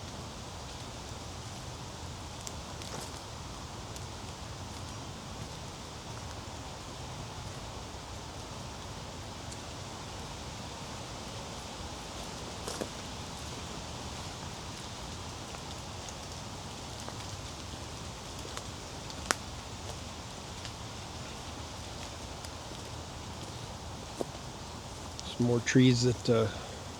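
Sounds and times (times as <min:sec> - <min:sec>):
rustling of hiker in vegetation: 0:00.0 - 0:25.6.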